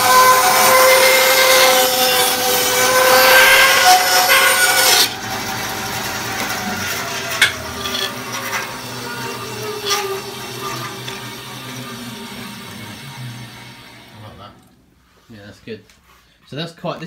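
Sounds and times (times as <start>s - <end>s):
bandsaw cutting wood: 0.0s - 14.6s
bandsaw motor whine: 0.0s - 14.8s.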